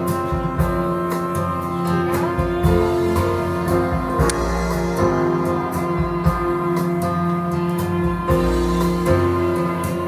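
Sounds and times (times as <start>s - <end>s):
plucked guitar music on loudspeakers: 0.0s - 10.0s.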